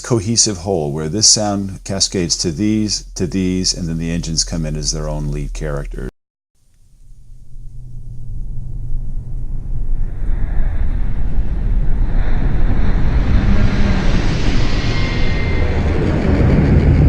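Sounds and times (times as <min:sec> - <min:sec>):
sci-fi spaceship engine hum: 0:00.0 - 0:06.0, 0:06.9 - 0:17.0.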